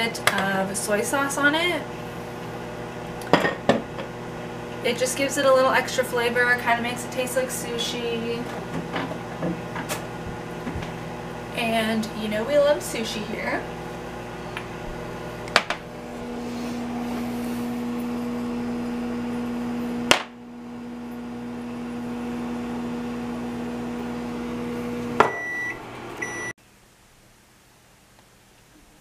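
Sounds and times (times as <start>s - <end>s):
microwave oven humming: 0.0s - 26.6s.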